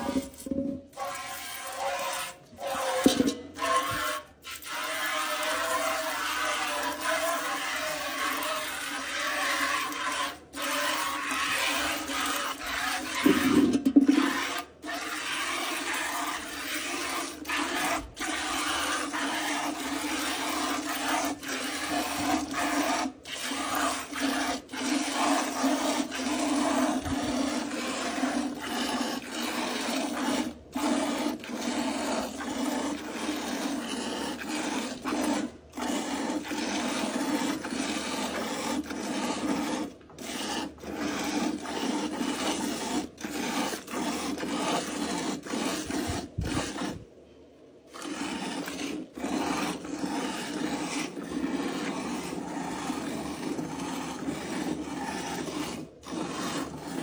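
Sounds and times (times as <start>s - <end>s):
milk squirting into a metal pail: 0.0s - 47.0s, 47.9s - 57.0s.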